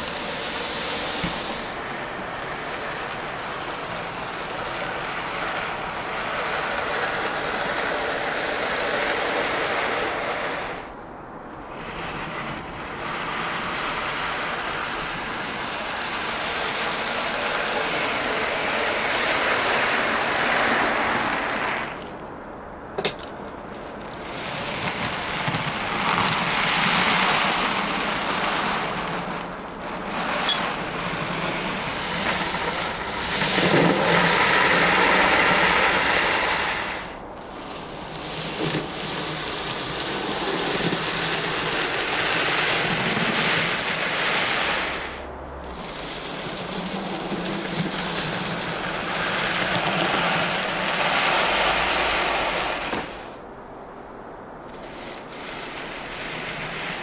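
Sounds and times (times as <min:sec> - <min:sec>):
model train rumbling on track: 0:00.0 - 0:57.0.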